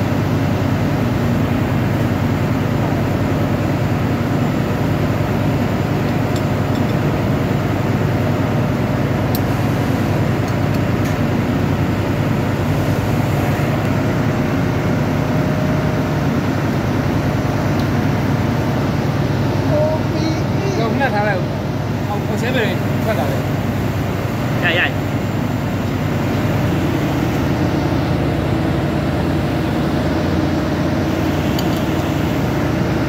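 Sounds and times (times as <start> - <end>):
machinery droning: 0.0 - 33.0.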